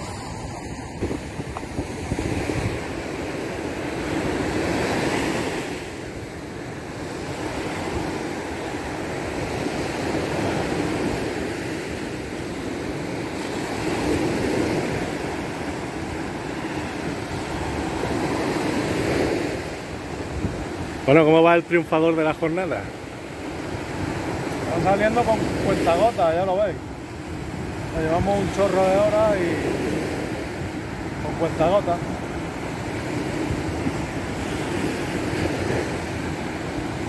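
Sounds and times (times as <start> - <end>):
wind rumbling on microphone: 0.0 - 21.6, 22.2 - 37.0
surf breaking on a beach: 0.0 - 37.0.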